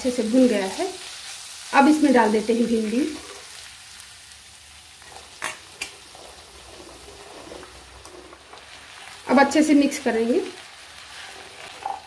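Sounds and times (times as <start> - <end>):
masala sizzling in pan: 0.0 - 12.0.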